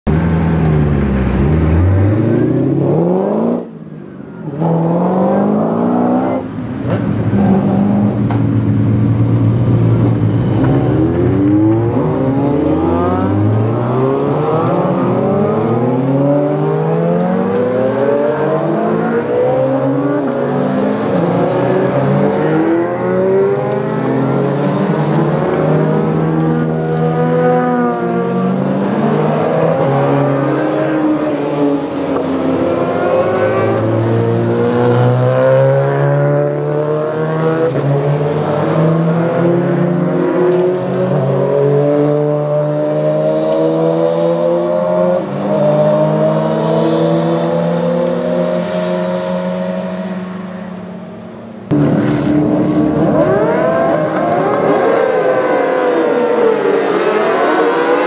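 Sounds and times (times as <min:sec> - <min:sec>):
racing engines revving through gears: 0:00.1 - 0:03.8, 0:04.4 - 0:58.0.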